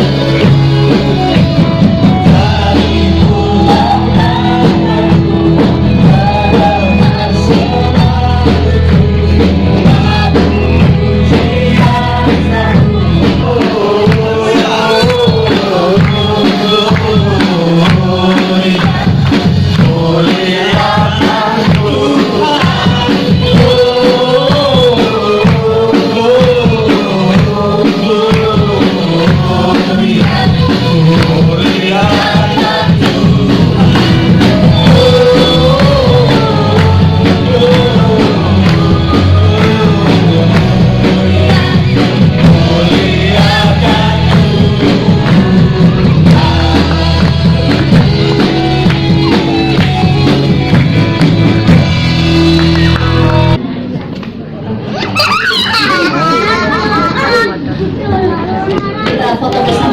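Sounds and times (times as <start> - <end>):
group singing gospel with band: 0.0 - 53.6, 55.5 - 57.6.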